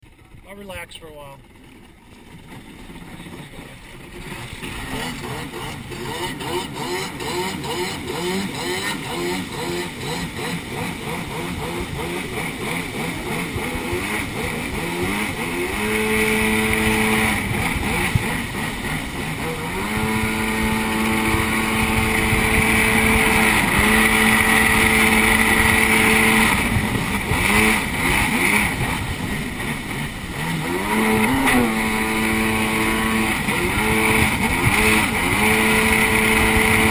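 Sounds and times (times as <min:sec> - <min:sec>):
jet ski engine revving: 0:00.1 - 0:36.9
rushing water and spray: 0:02.1 - 0:36.9.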